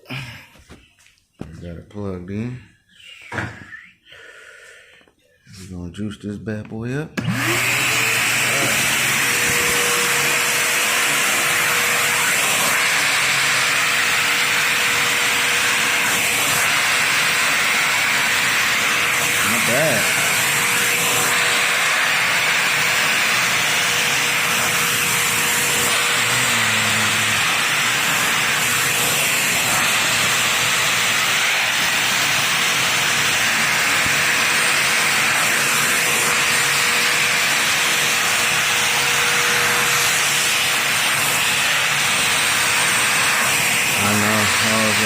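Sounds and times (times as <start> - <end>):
shop vacuum running: 7.2 - 45.0.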